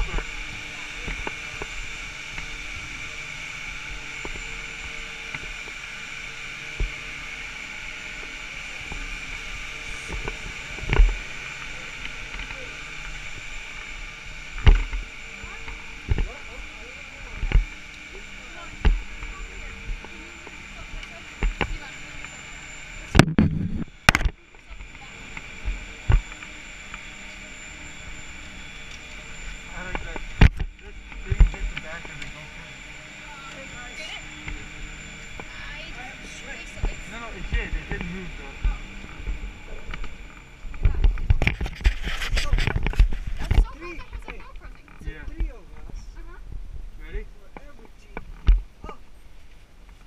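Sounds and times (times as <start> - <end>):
chairlift machinery hum: 0.0 - 50.0.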